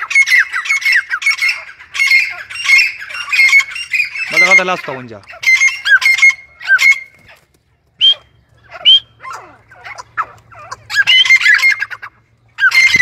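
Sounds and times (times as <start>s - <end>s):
francolins calling: 0.0s - 13.0s.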